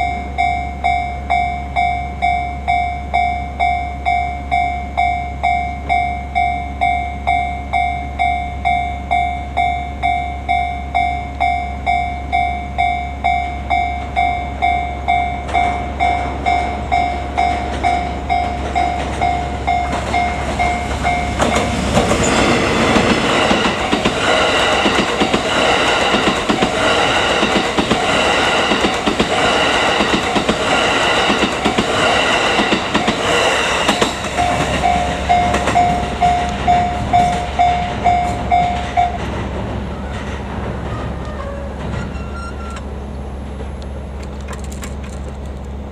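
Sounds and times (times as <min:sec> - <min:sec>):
level-crossing warning bell: 0:00.0 - 0:45.9
train wheels rumbling on rails: 0:00.0 - 0:45.9.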